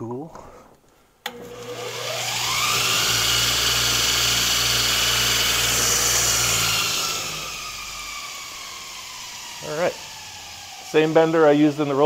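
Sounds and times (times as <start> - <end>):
motor winding down: 1.3 - 12.0
power tool motor whining: 1.3 - 12.0.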